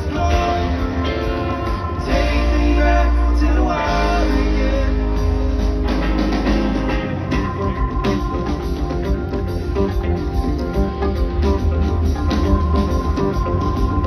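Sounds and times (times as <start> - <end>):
live rock band: 0.0 - 14.0.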